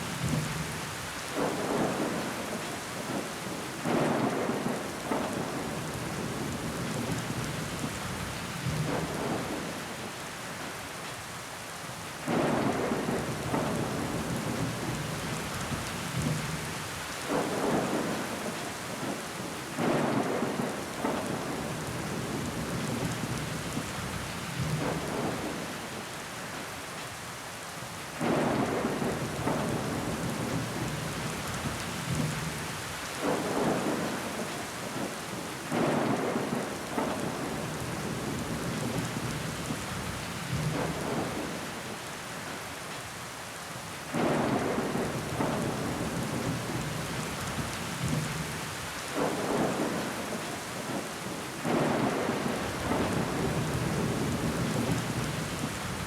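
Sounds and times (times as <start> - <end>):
rain pattering on a window: 0.0 - 56.0.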